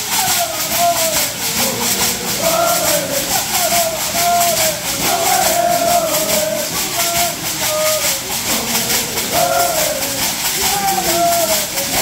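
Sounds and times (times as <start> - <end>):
leg shakers rattling: 0.0 - 12.0
men singing held notes: 0.0 - 12.0.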